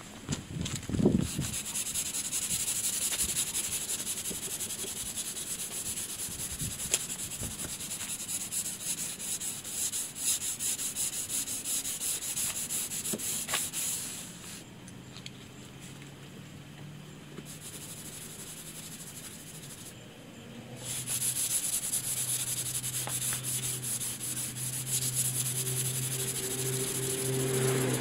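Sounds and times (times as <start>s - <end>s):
sandpaper rubbing by hand: 1.2s - 14.6s, 17.5s - 19.9s, 20.8s - 28.0s.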